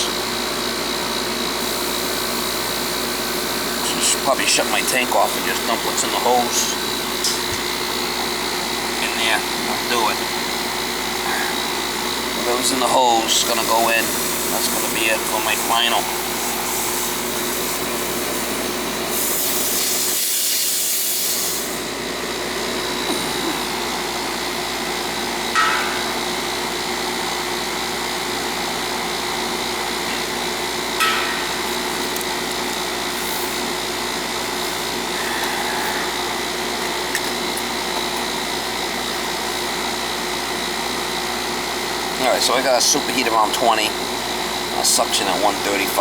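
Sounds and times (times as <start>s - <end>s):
air conditioner unit humming: 0.0s - 46.0s.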